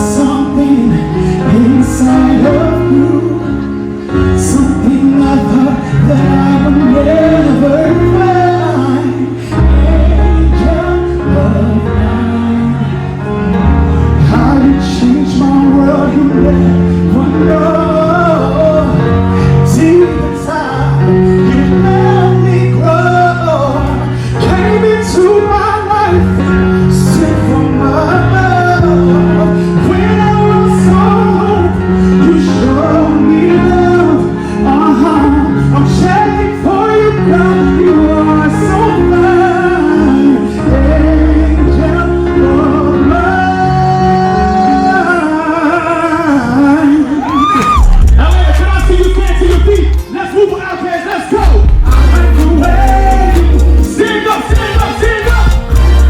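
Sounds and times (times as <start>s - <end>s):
live band with singing: 0.0s - 56.0s.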